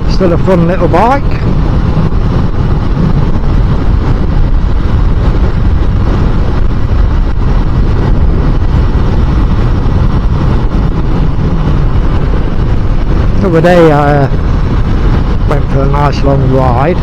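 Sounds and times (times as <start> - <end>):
road noise: 0.0 - 17.0
wind rushing on microphone: 0.0 - 17.0
motorcycle engine: 1.0 - 15.8.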